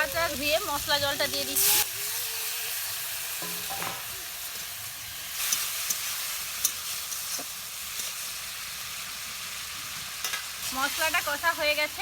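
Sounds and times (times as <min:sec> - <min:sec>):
spice paste sizzling in hot oil: 0:00.0 - 0:12.0.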